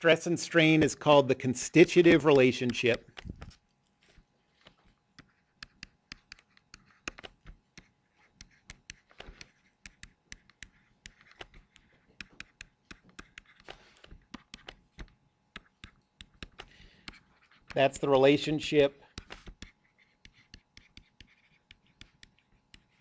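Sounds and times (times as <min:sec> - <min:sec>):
stylus tapping on tablet screen: 0:02.0 - 0:03.6, 0:04.6 - 0:17.8, 0:19.1 - 0:23.0.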